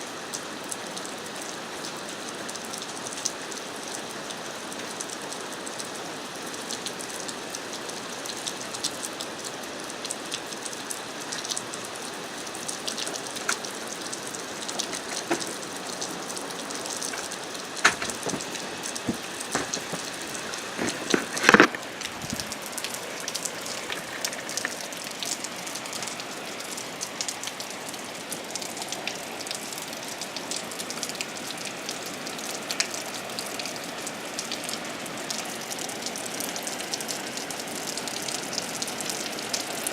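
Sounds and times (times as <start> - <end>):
heavy rain falling: 0.0 - 39.9
raindrops ticking on hard surface: 0.3 - 39.9.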